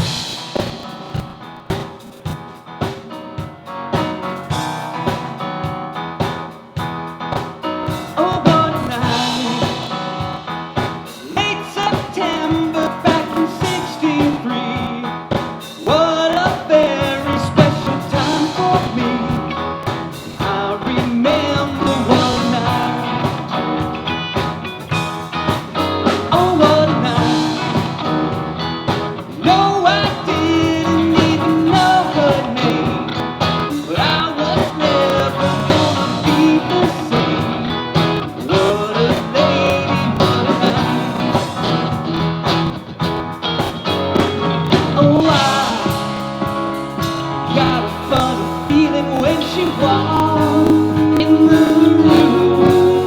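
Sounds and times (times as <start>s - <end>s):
blues-rock band music: 0.0s - 53.0s
person singing: 7.8s - 42.2s, 44.2s - 53.0s.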